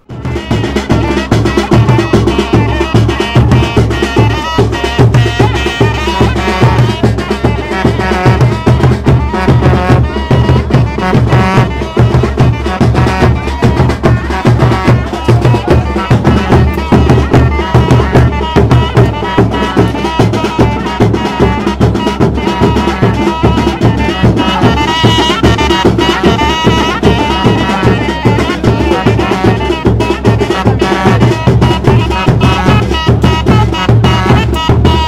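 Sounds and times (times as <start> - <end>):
fast drum beat: 0.0 - 35.0
pitched melody line: 0.0 - 35.0.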